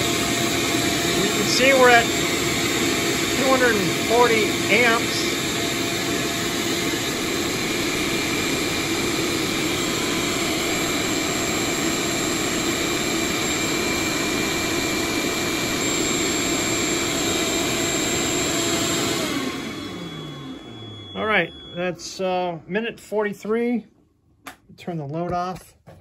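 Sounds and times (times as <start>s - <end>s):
space heater blowing: 0.0s - 22.9s
cooling fans whirring: 0.0s - 23.7s
steady tones: 0.6s - 23.5s.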